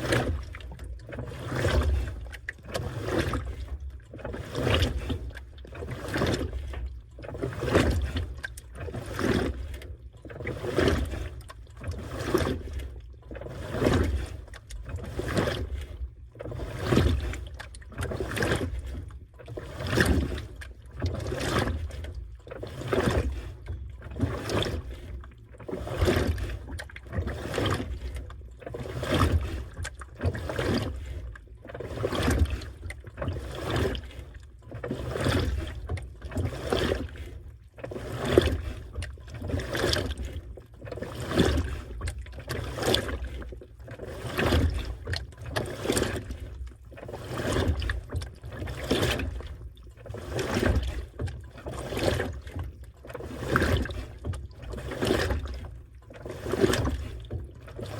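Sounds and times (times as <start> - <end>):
washing machine churning water: 0.0 - 57.9.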